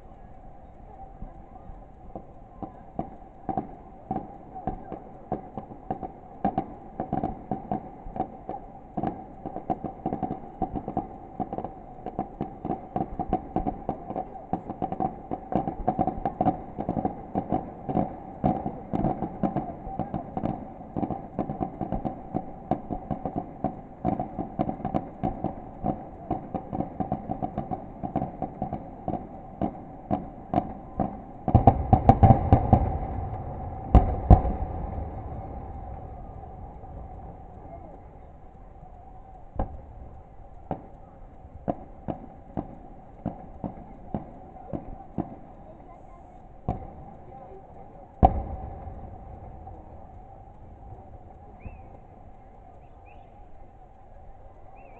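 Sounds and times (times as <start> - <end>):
fireworks bangs and crackles: 0.0 - 54.9
deep firework booms: 2.2 - 45.6, 46.6 - 52.6.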